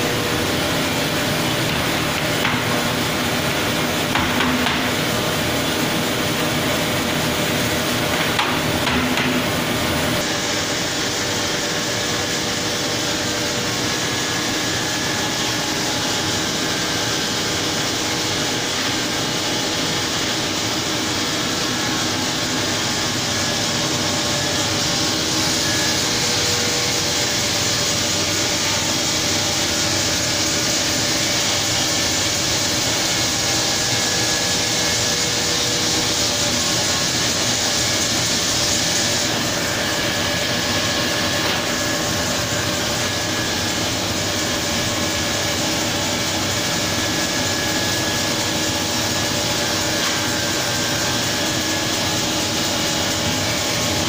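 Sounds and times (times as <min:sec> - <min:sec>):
machinery hiss: 0:00.0 - 0:54.0
machinery running loudly: 0:00.0 - 0:54.0.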